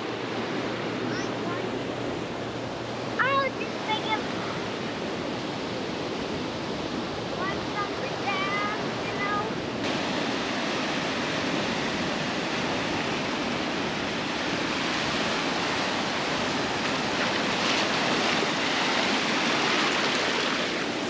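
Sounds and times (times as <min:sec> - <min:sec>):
surf washing onto beach: 0:00.0 - 0:21.0
wave breaking: 0:00.0 - 0:21.0.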